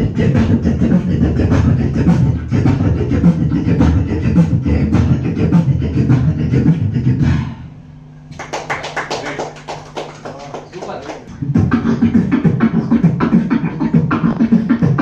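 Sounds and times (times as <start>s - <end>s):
beatboxing into a microphone: 0.0s - 7.7s, 9.4s - 15.0s.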